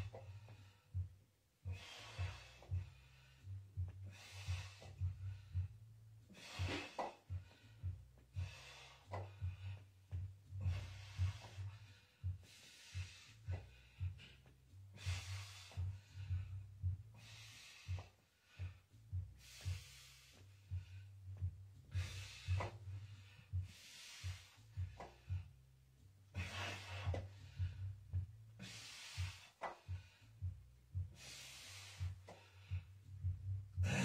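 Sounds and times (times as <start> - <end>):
thumping bass beat music: 0.0 - 34.0.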